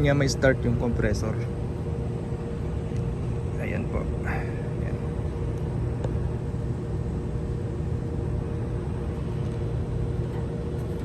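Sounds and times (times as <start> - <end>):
faint hum: 0.0 - 11.0
low background rumble: 0.0 - 11.0.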